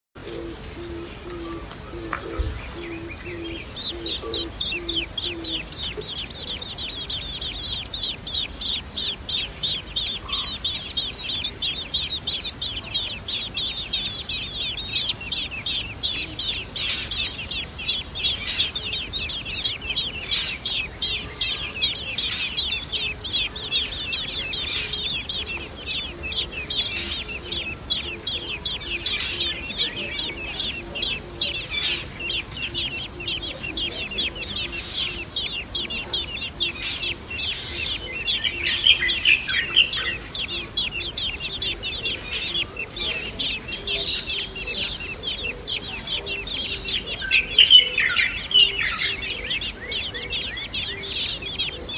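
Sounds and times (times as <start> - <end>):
nestlings chirping: 0.2 - 51.9.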